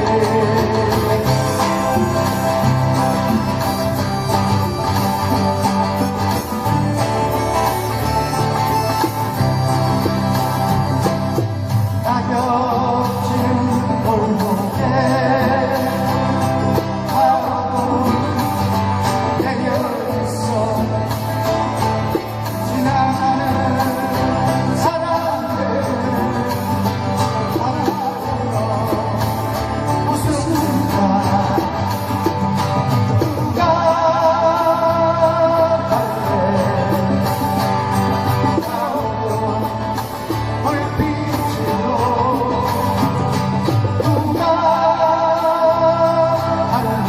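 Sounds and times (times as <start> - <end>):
person singing: 0.0 - 21.6, 22.2 - 32.4, 33.0 - 47.0
instrumental accompaniment with bass: 0.0 - 47.0.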